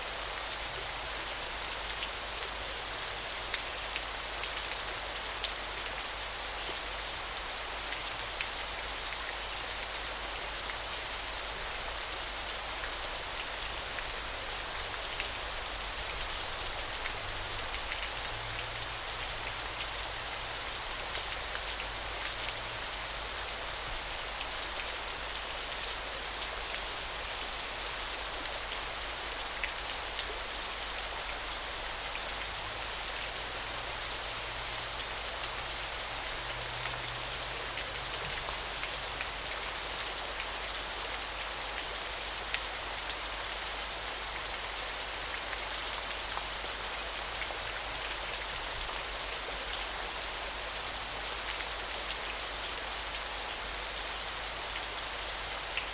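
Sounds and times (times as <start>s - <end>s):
river water running: 0.3s - 55.9s.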